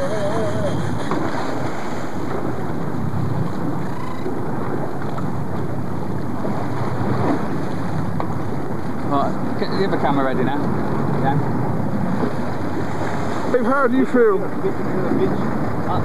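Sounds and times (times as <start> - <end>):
boat: 0.0 - 16.0
sea washing against boat: 0.0 - 16.0
wind on microphone: 0.0 - 16.0.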